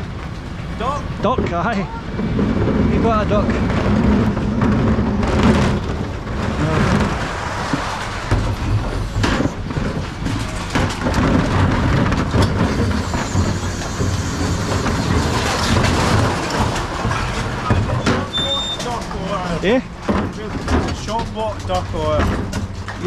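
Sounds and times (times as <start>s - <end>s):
bin lorry engine rumbling: 0.0s - 23.0s
knocks and rattles: 0.0s - 23.0s.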